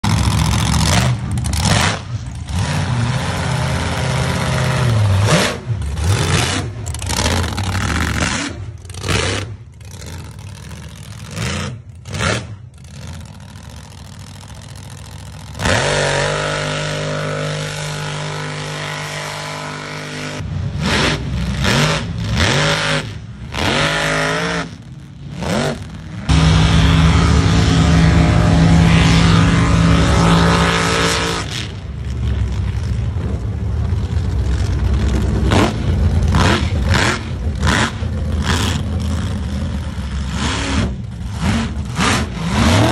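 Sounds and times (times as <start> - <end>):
truck engines revving: 0.0 - 42.9.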